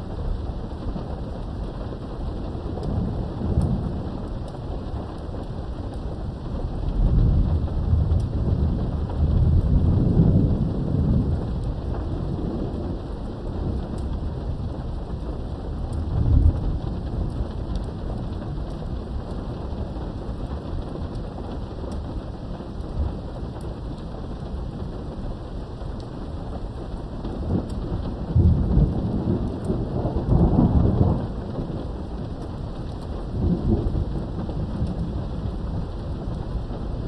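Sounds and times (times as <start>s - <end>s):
rain falling: 0.0s - 37.0s
thunder rumbling: 0.0s - 37.0s.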